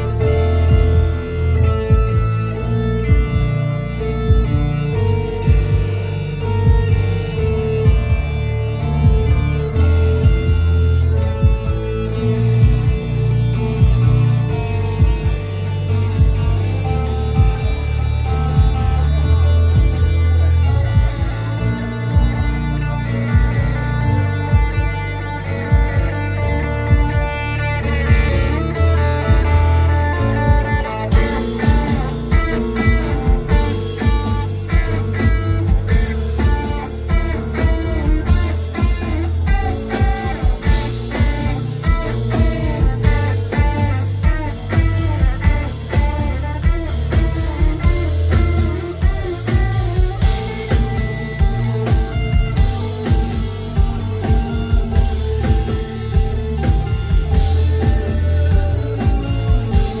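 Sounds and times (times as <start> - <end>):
drum kit with cymbals: 0.0 - 60.0
electric guitar: 0.0 - 60.0
keyboards: 0.0 - 60.0.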